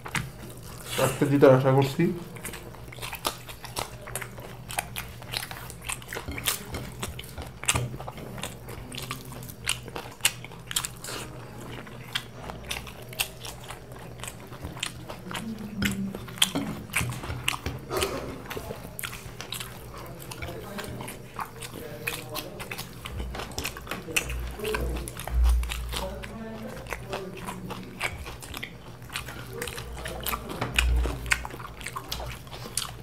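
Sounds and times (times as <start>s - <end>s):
chewing and crunching: 0.0s - 33.0s
low steady hum: 0.0s - 33.0s.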